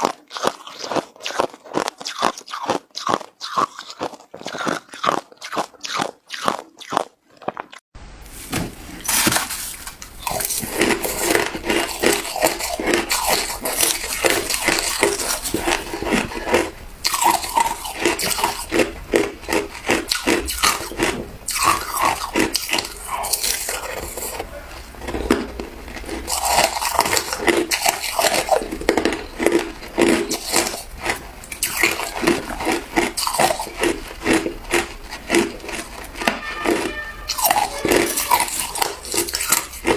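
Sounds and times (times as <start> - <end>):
ice being chewed: 0.0 - 7.8, 10.2 - 39.9.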